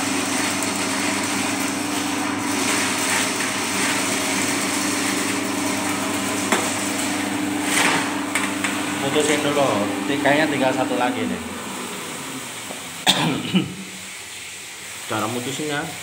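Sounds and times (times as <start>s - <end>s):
drain cleaning machine motor running: 0.0s - 15.8s.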